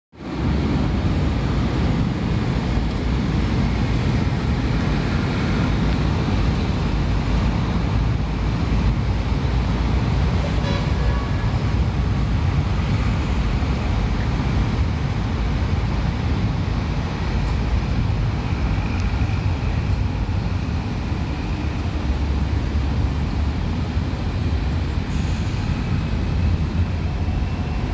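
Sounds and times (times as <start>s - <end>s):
city traffic rumble: 0.1s - 27.9s.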